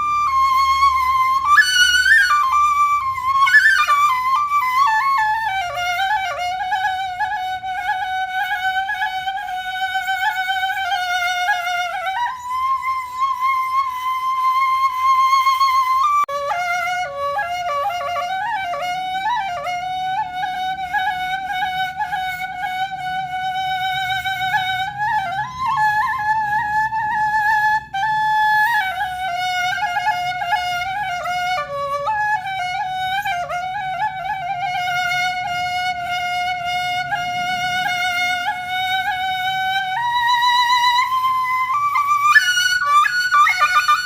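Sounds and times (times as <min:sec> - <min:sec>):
solo flute melody: 0:00.0 - 0:44.0.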